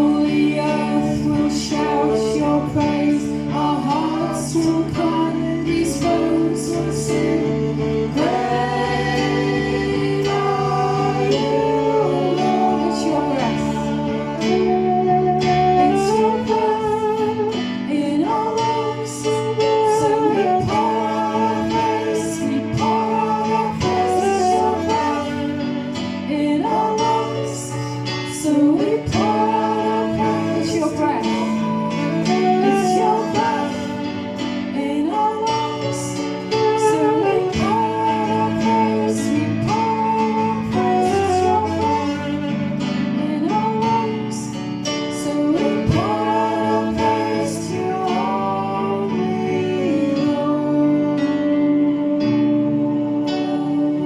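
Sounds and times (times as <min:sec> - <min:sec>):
worship band music with guitar: 0:00.0 - 0:54.0.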